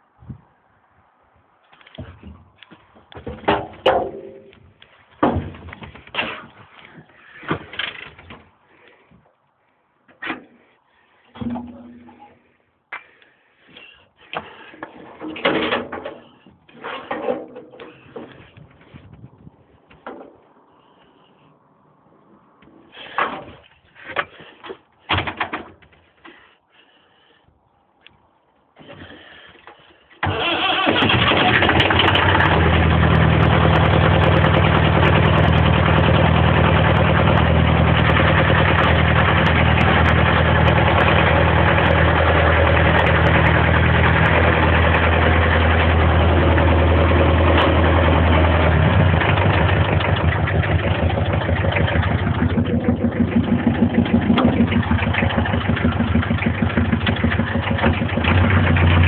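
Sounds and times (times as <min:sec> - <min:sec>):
tractor engine starting and running: 0:01.7 - 0:08.9, 0:11.2 - 0:12.6, 0:13.7 - 0:21.5, 0:22.3 - 0:26.2, 0:28.8 - 0:59.0.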